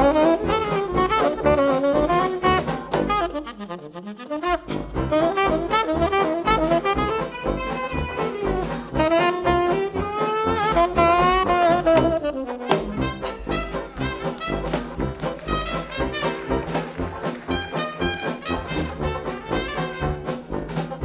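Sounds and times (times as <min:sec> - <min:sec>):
saxophone solo: 0:00.0 - 0:20.3
jazz big band playing: 0:00.0 - 0:21.0.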